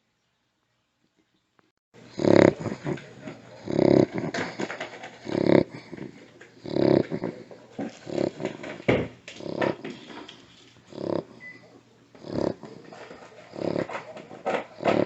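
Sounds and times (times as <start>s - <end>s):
dog rasping breathing: 2.0s - 15.0s.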